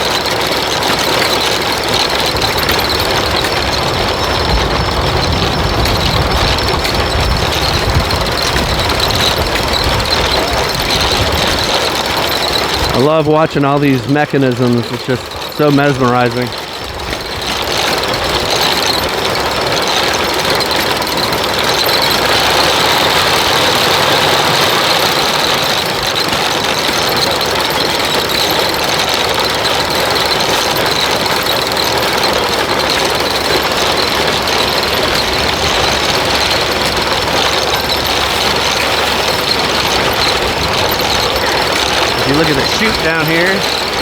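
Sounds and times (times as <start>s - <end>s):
thresher mechanical clatter and hiss: 0.0s - 44.0s.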